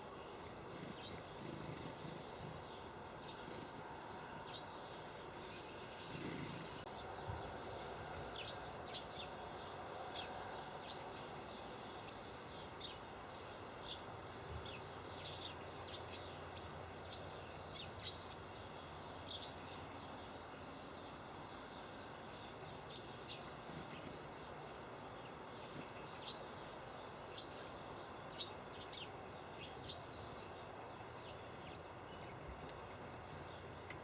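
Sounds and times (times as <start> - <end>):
small birds chirping: 0.0 - 34.0
steady background hiss: 0.0 - 34.0.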